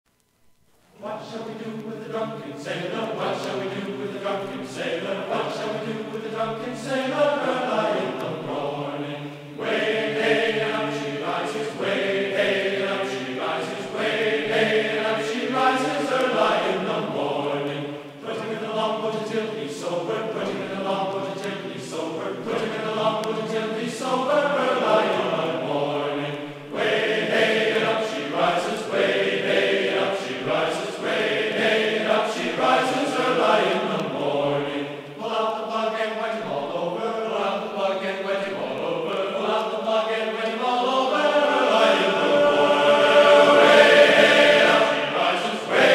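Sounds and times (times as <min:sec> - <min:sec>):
choral chant-like singing: 0:00.9 - 0:45.9.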